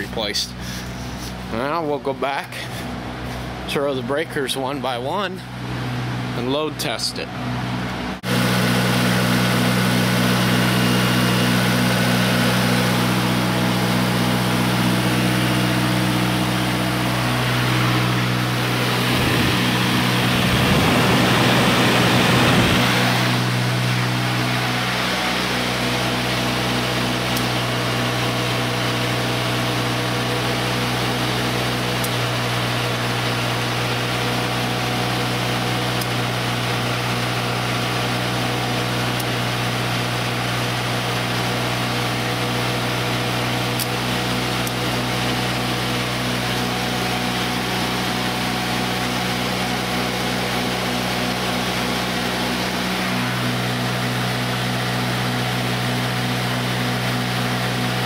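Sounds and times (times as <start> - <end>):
heater blower fans humming: 0.0 - 58.0.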